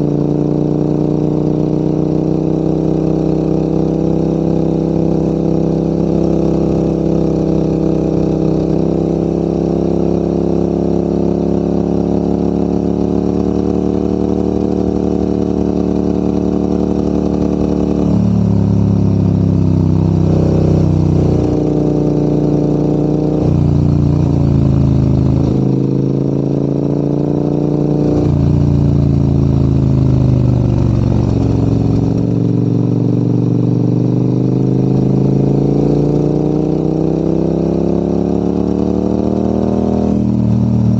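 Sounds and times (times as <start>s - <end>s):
motorcycle engine under load: 0.0s - 40.9s.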